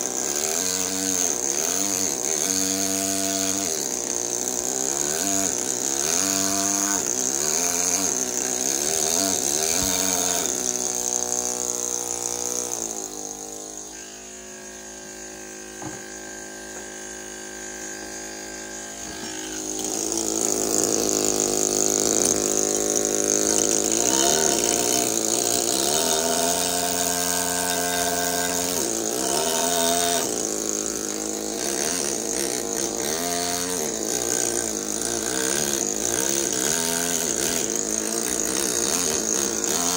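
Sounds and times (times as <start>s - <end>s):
pneumatic hammer chiselling marble: 0.0s - 39.9s.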